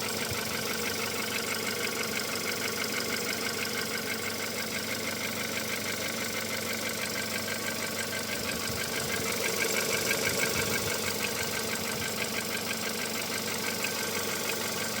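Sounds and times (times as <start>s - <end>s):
car engine idling with knock: 0.0s - 15.0s.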